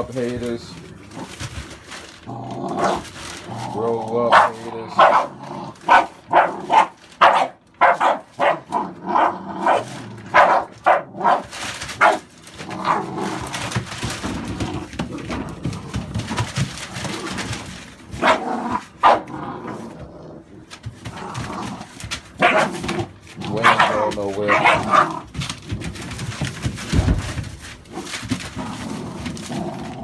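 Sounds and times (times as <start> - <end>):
puppies scuffling: 0.0 - 8.6, 9.7 - 30.0
puppies play-barking: 4.1 - 29.4.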